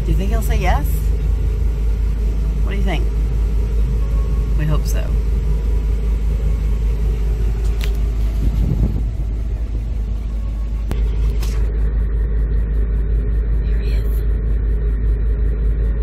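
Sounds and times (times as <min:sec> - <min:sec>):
van engine idling: 0:00.0 - 0:16.0.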